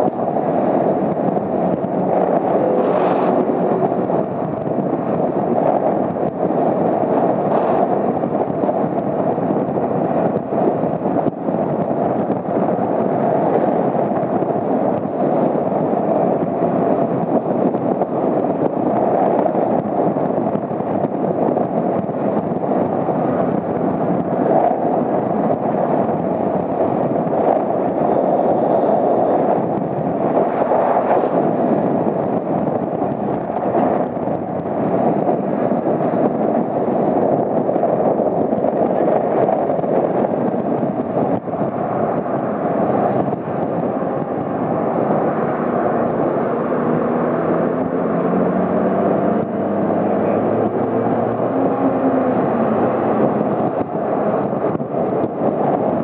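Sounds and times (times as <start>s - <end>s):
road noise: 0.0s - 56.0s
wind rushing on microphone: 0.0s - 56.0s.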